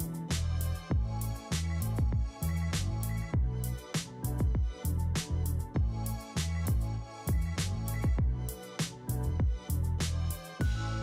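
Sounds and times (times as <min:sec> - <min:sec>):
beat track with deep bass: 0:00.0 - 0:11.0.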